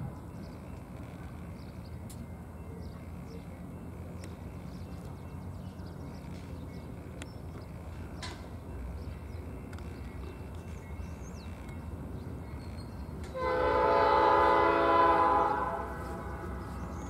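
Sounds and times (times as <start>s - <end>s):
diesel freight train rumbling: 0.0s - 17.0s.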